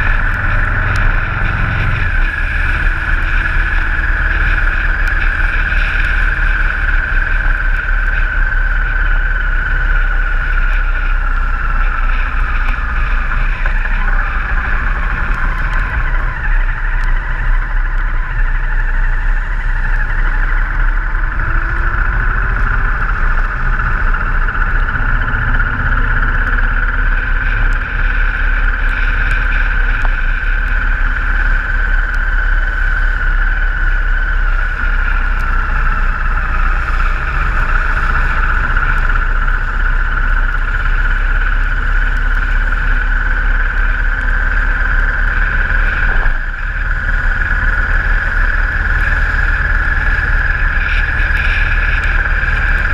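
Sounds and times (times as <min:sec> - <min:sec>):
motorcycle engine drone: 0:00.0 - 0:52.9.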